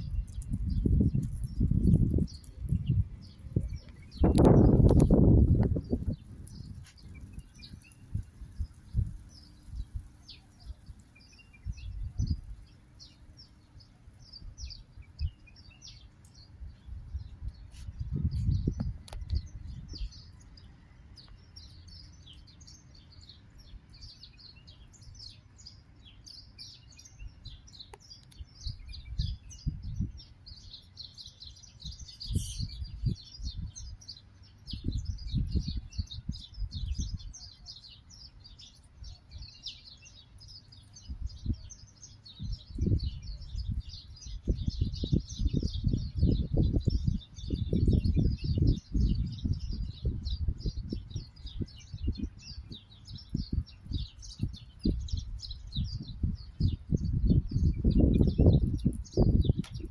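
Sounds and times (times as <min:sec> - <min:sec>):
sparrows chirping: 0:00.0 - 0:59.9.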